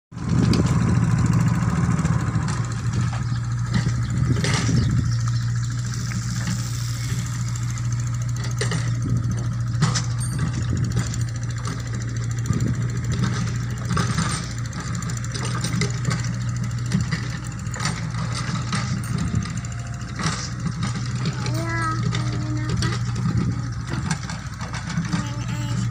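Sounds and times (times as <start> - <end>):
excavator diesel engine running: 0.1 - 25.9
digging knocks and clanks: 2.4 - 25.9.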